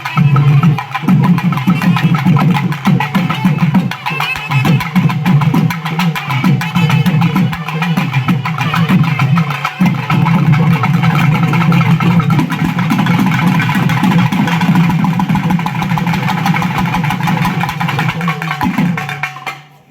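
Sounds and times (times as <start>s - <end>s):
rapid dense drumming: 0.0s - 19.7s.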